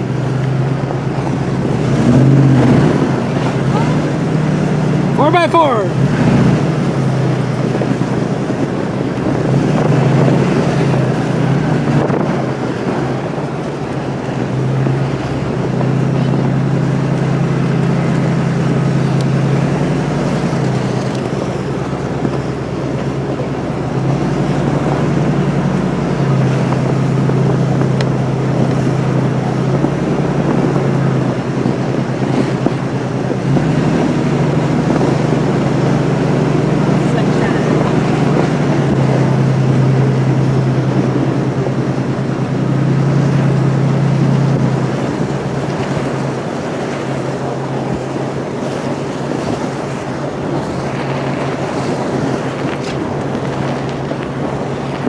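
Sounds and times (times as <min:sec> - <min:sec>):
truck engine running: 0:00.0 - 0:55.0
tyres rushing in snow: 0:00.0 - 0:55.0
wind buffeting microphone: 0:00.0 - 0:55.0.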